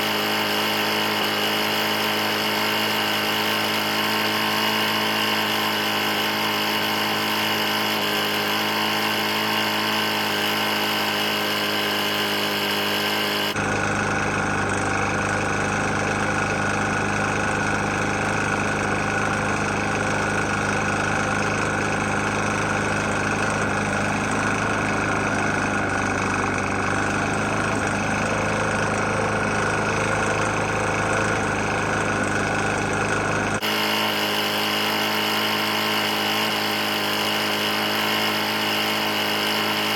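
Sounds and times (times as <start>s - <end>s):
lawn mower engine knocking: 0.0s - 39.9s.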